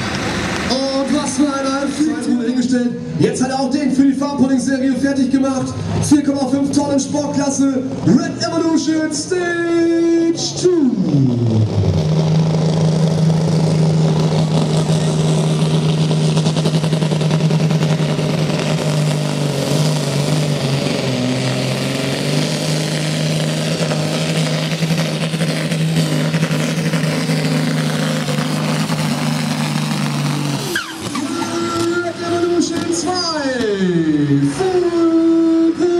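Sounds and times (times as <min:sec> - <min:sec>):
tractor diesel engine droning: 0:00.0 - 0:35.9.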